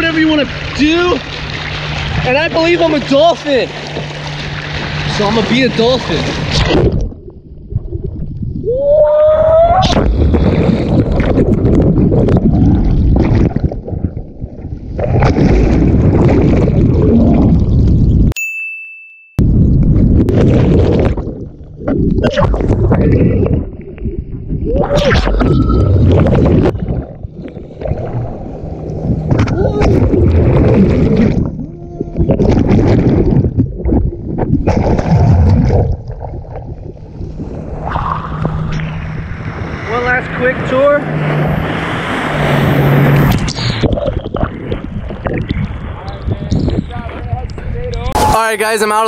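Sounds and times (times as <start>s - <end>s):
water rushing and churning: 0.0s - 8.7s, 9.8s - 18.3s, 19.5s - 49.0s.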